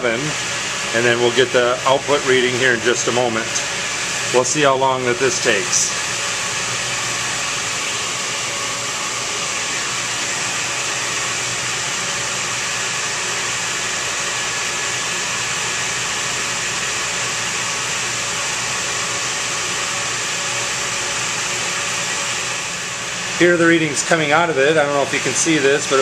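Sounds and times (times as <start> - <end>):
dehumidifier fan blowing air: 0.0 - 26.0.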